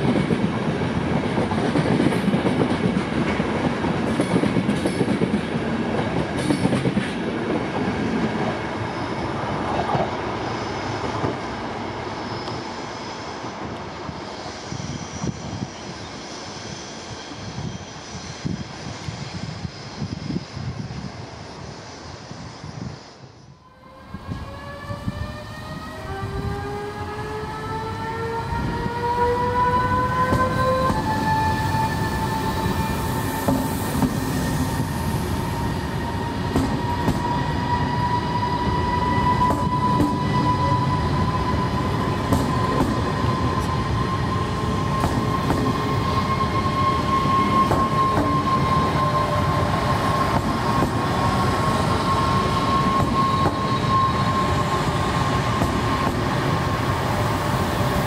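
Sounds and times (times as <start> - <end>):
train wheels rumbling: 0.0 - 21.4, 23.9 - 58.0
electric train traction whine: 0.3 - 58.0.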